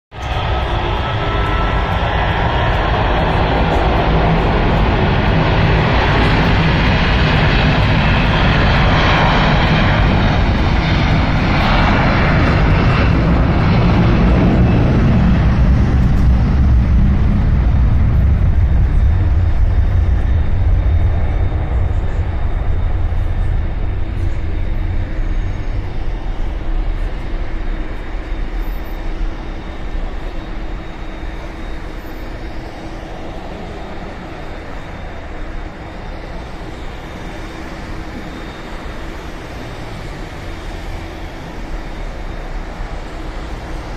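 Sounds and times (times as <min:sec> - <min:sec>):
jet engines roaring: 0:00.1 - 0:43.9
road traffic: 0:00.2 - 0:43.9.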